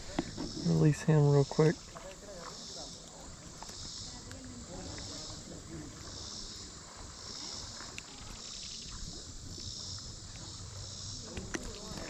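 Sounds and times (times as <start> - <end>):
insects calling in pulses: 0.0 - 12.0
low steady outdoor rush: 0.0 - 12.0.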